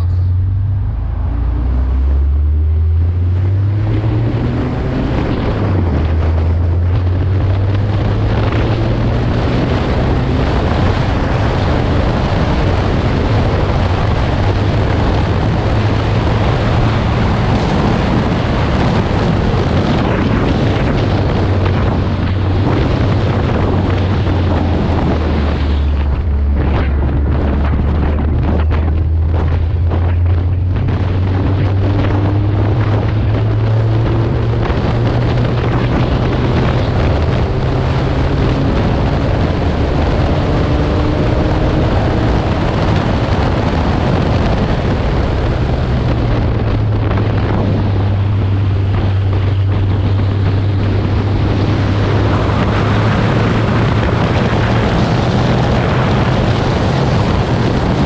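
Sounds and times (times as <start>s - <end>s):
car engine revving: 0.0s - 58.0s
wind buffeting microphone: 0.0s - 58.0s.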